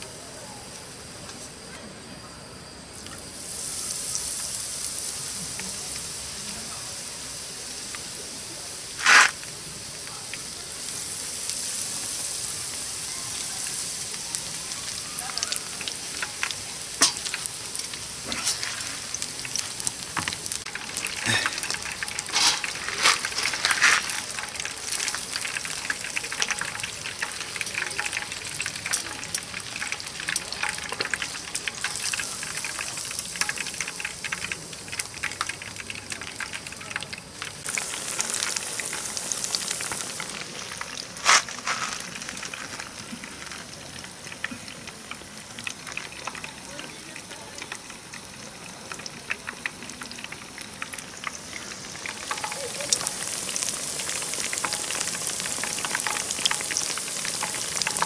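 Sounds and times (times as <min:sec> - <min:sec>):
campfire sizzling and crackling: 0:02.8 - 0:58.0.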